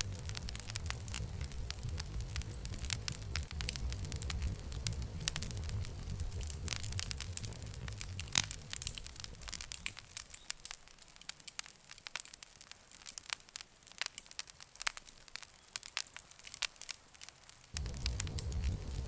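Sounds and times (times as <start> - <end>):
campfire crackling: 0.0 - 19.0
low rumble of flames: 0.0 - 19.0
sharp pops of burning wood: 0.0 - 19.0.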